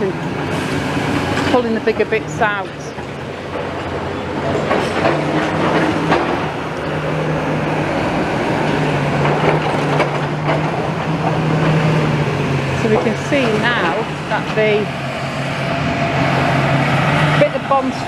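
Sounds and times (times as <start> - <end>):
heavy machine engine hum: 0.0 - 18.0.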